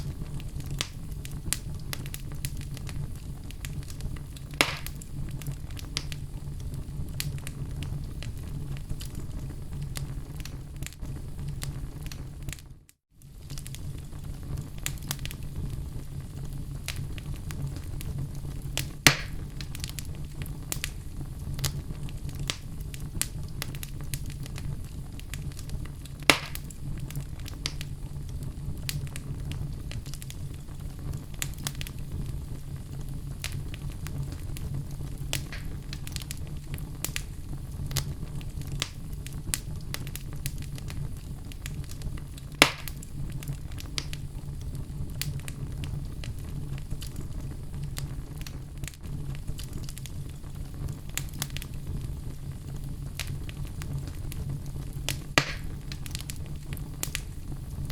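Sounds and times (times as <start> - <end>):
fire crackling: 0.0 - 57.9
fire rumbling: 0.0 - 57.9
sharp fire pops: 0.0 - 57.9.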